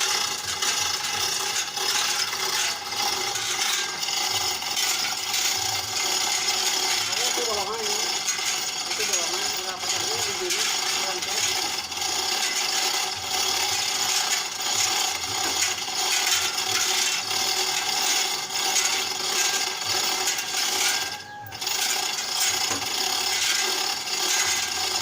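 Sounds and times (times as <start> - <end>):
chain rattling through hoist: 0.0 - 25.0
ratchet clicking: 0.0 - 25.0.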